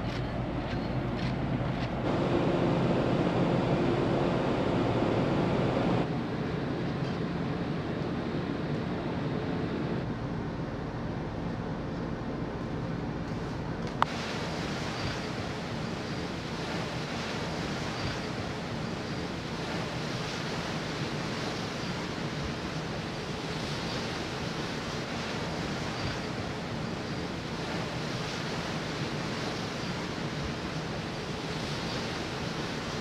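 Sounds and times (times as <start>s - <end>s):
water rushing along hull: 0.0s - 33.0s
wind: 0.0s - 33.0s.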